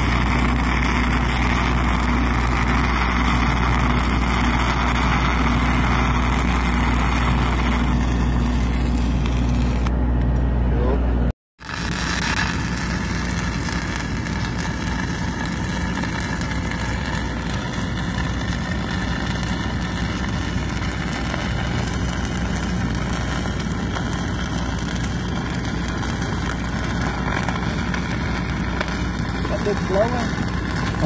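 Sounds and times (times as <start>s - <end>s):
welding arc crackling and hissing: 0.0s - 9.9s, 11.6s - 31.0s
steady low hum: 0.0s - 31.0s.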